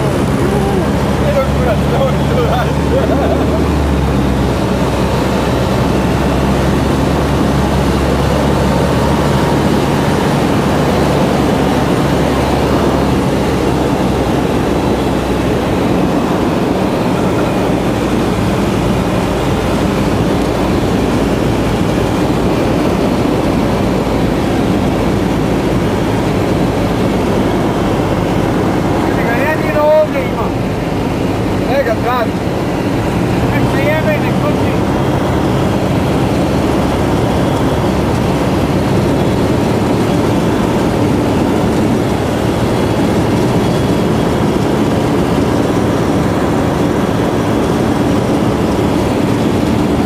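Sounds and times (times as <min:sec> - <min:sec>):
light aircraft engine droning: 0:00.0 - 0:50.0.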